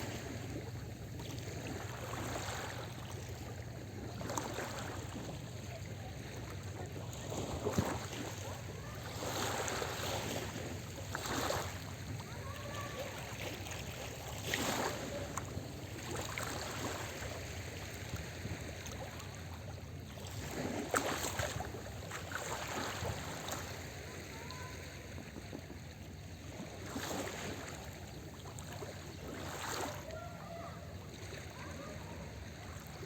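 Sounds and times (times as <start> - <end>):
small sea waves breaking: 0.0 - 33.0.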